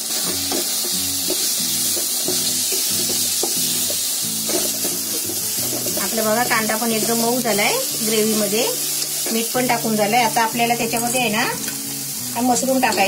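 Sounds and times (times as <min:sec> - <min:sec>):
background music: 0:00.0 - 0:13.0
onion sizzling in a pan: 0:00.0 - 0:13.0.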